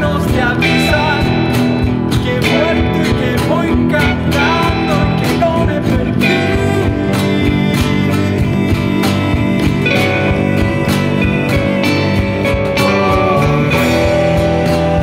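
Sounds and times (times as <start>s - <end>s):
song with guitar and beat: 0.0s - 15.0s.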